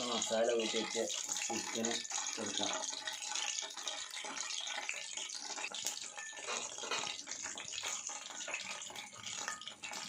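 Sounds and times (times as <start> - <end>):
chicken deep-frying in oil: 0.0 - 10.0.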